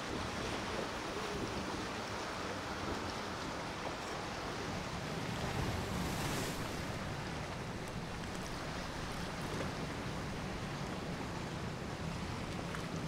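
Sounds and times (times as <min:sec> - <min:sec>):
waves rushing: 0:00.0 - 0:13.0.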